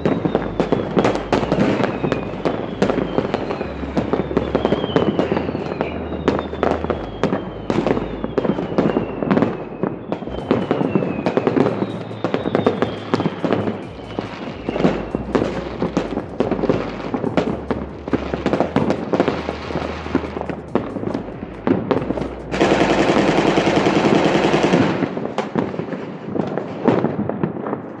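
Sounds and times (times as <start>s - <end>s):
firework whistles falling in pitch: 0.0s - 26.0s
fireworks bangs and pops: 0.0s - 28.0s.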